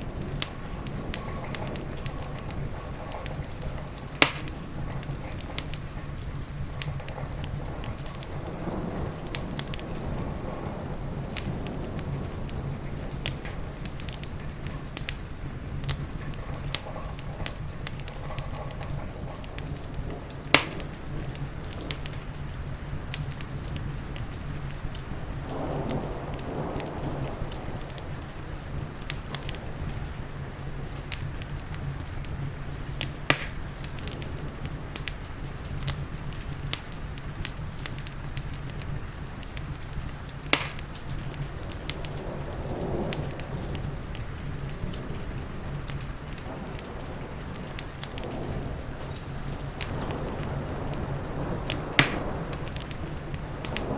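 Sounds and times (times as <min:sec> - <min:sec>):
rain hissing: 0:00.0 - 0:53.9
wood fire crackling: 0:00.0 - 0:53.9.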